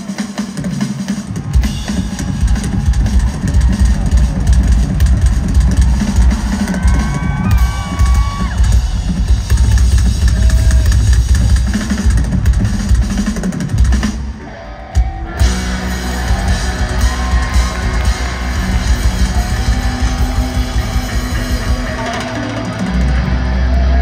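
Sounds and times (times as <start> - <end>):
pounding drum kit: 0.0 - 24.0
distorted electric guitars: 1.4 - 24.0.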